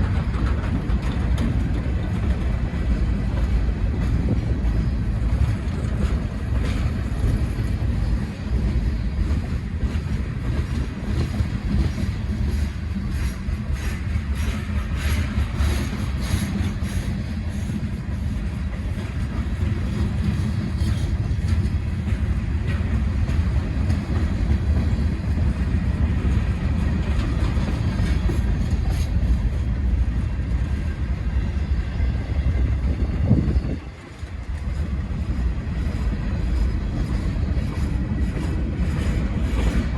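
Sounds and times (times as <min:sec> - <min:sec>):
freight train wheels rumbling: 0:00.0 - 0:39.9
train cars rattling and knocking: 0:00.0 - 0:39.9.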